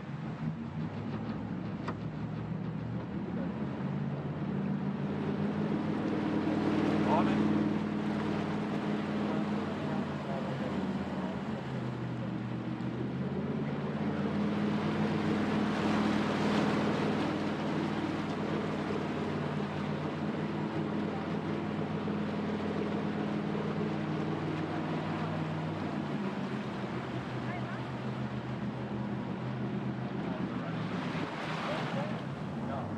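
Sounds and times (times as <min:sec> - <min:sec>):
boat engine running: 0:00.0 - 0:32.9
rushing water and wind: 0:00.0 - 0:32.9.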